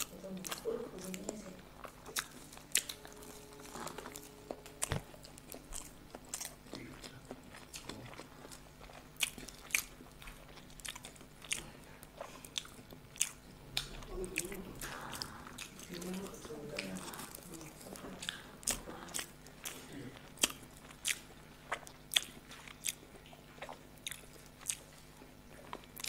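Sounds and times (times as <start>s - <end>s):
people chewing: 0.0s - 26.0s.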